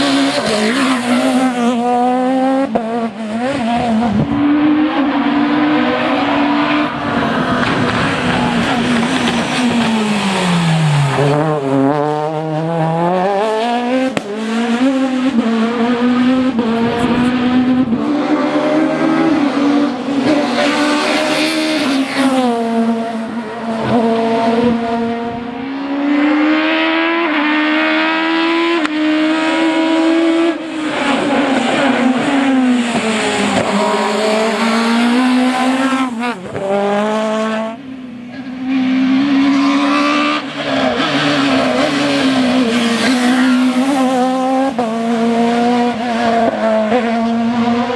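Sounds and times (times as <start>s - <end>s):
rally car engine revving hard: 0.0s - 47.9s.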